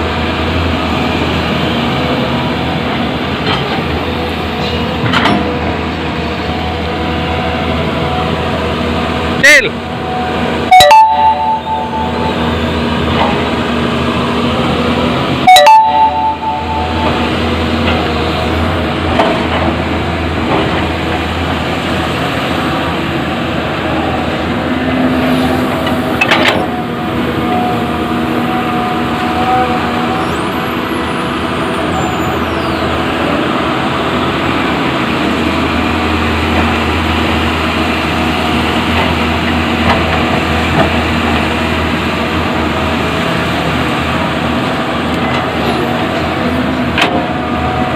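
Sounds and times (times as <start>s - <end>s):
excavator running: 0.0s - 47.9s.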